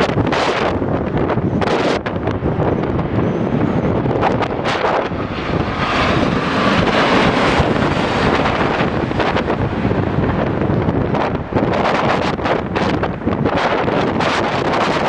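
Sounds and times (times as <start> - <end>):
jet airliner engine noise: 0.0 - 15.0
wind buffeting microphone: 0.0 - 15.0.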